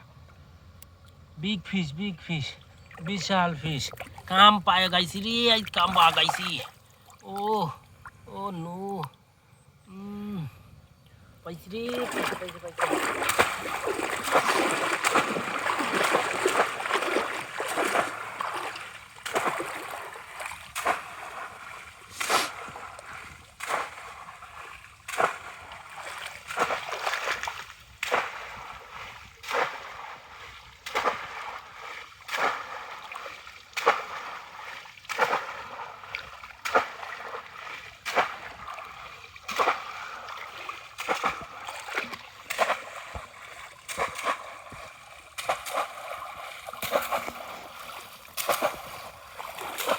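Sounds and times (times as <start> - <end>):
water splashing in strokes: 1.8 - 9.2, 11.6 - 49.9.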